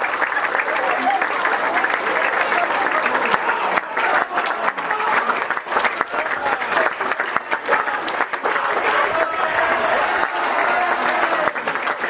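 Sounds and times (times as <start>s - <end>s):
audience clapping: 0.0s - 12.0s
murmur of crowd voices: 1.0s - 12.0s.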